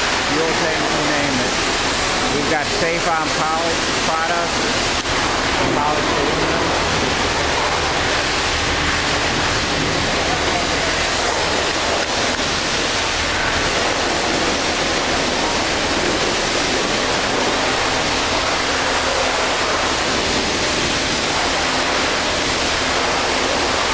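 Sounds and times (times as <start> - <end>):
pressure washer spraying water: 0.0 - 23.9.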